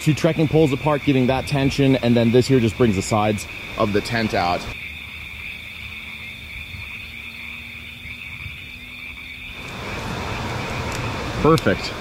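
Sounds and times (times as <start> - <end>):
high-pitched night animal chorus: 0.0 - 11.2
background hiss: 0.0 - 12.0.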